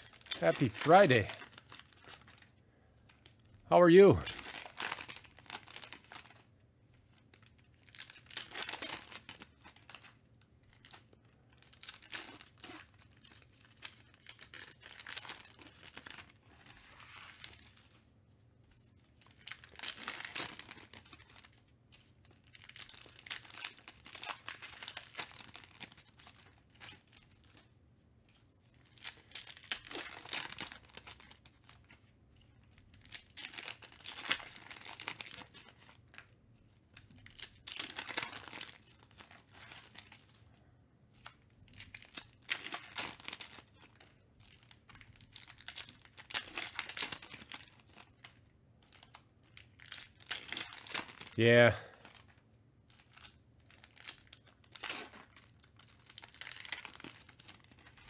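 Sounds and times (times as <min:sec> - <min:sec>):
card pack wrappers tearing: 0:00.0 - 0:02.5, 0:04.0 - 0:06.4, 0:07.3 - 0:10.2, 0:10.8 - 0:17.8, 0:19.2 - 0:27.7, 0:28.8 - 0:36.3, 0:37.0 - 0:40.4, 0:41.1 - 0:52.3, 0:52.9 - 0:58.0.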